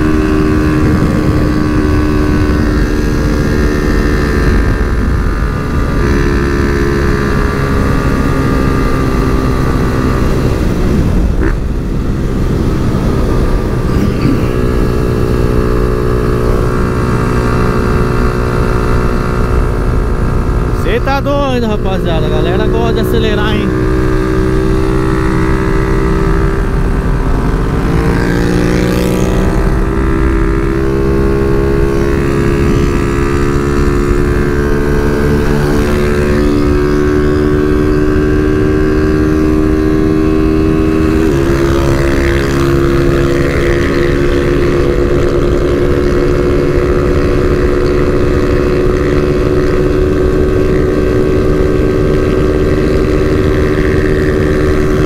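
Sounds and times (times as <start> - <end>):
motorcycle engine running hard: 0.0 - 55.0
wind buffeting microphone: 0.0 - 55.0.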